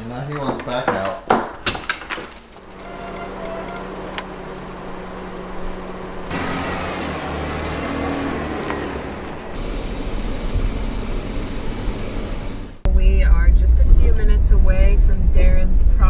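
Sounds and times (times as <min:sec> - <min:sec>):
car engine rumbling: 0:02.0 - 0:16.0.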